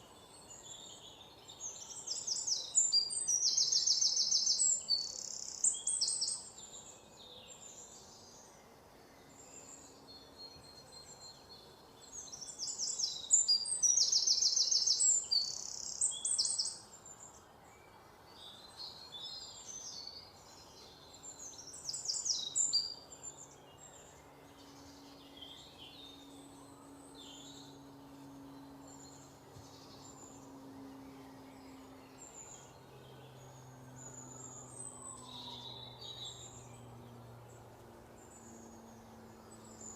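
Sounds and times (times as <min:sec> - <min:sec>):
faint low hum: 0:00.0 - 0:39.9
small birds chirping and trilling: 0:00.0 - 0:39.9.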